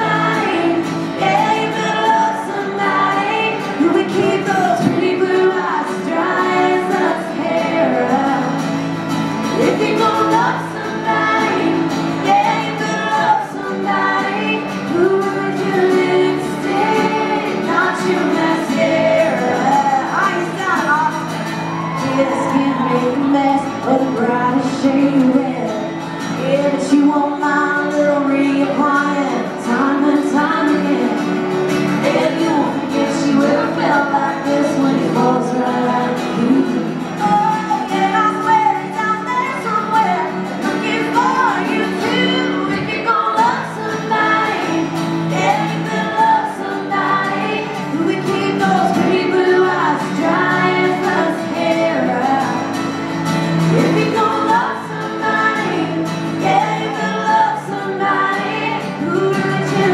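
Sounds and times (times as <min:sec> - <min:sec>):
acoustic guitars strumming: 0:00.0 - 0:59.9
mandolin: 0:00.0 - 0:59.9
woman singing: 0:00.0 - 0:59.9.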